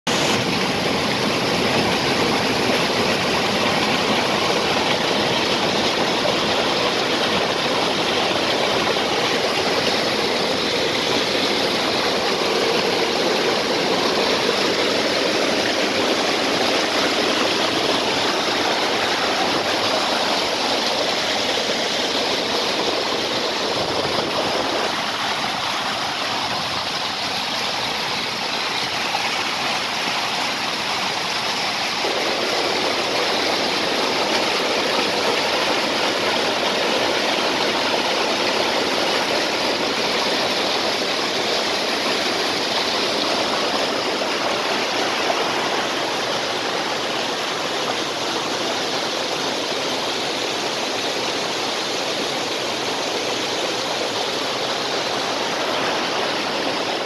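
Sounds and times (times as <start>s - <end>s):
stream rushing over rocks: 0.1s - 57.0s.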